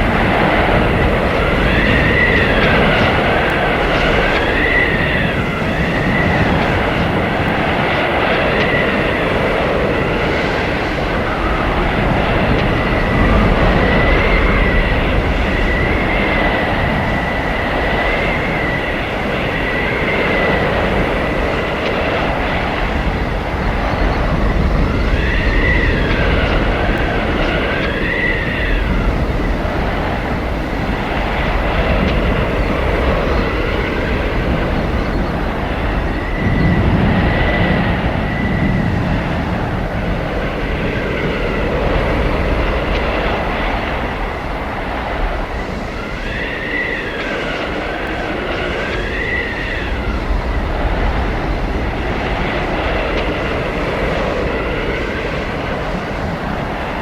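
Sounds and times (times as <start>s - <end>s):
howling wind whistle: 0.0s - 57.0s
wind blowing hard: 0.0s - 57.0s.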